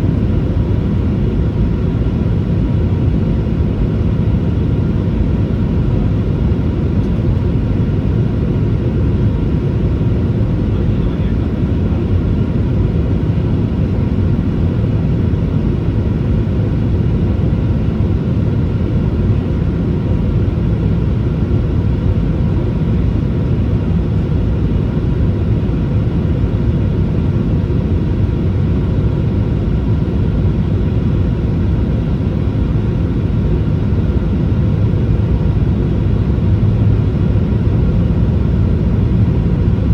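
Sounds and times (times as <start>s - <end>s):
airplane engine rumble: 0.0s - 39.9s.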